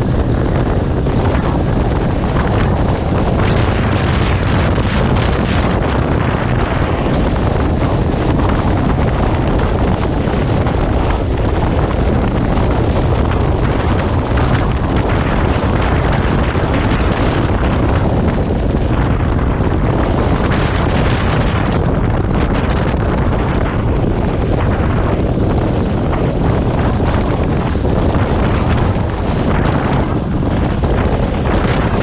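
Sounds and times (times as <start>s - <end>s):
motorcycle engine drone: 0.0s - 32.0s
wind rush on microphone: 0.0s - 32.0s.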